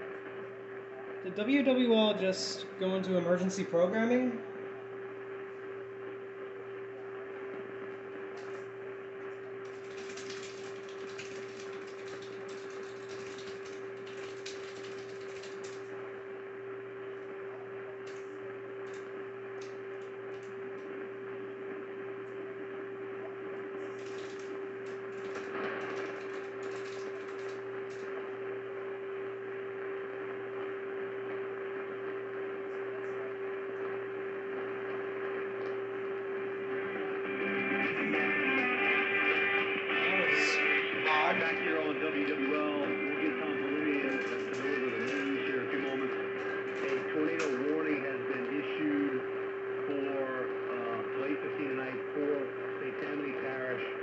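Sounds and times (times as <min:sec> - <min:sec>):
crackling radio static: 0:00.0 - 0:54.0
radio hiss with whistling hum: 0:00.0 - 0:54.0.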